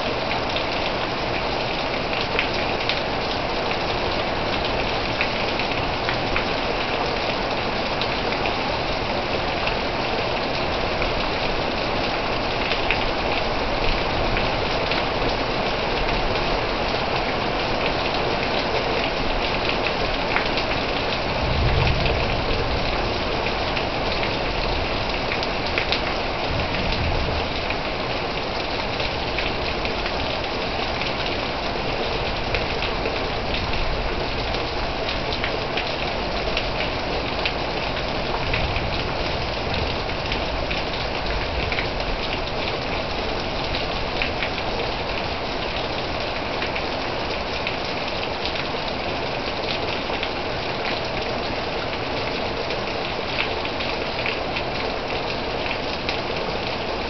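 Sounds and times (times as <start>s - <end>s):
heavy rain: 0.0s - 57.0s
raindrops ticking and splashing: 0.0s - 57.0s.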